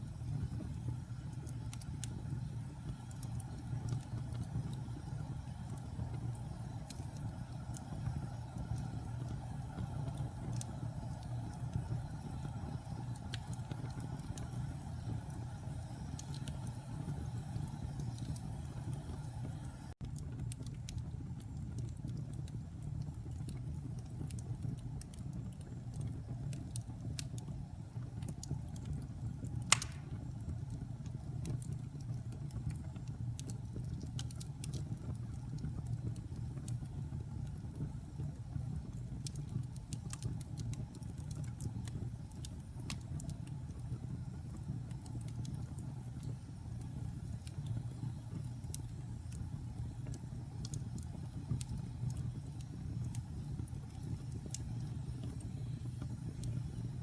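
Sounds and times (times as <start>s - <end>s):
fire crackles and pops: 0.0s - 57.0s
wood fire rumbling: 0.0s - 57.0s.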